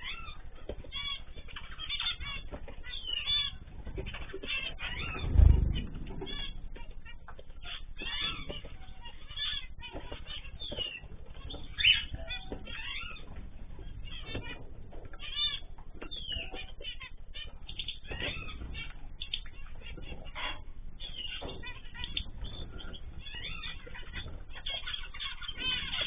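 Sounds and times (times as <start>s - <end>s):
cage birds chirping: 0.0s - 26.0s.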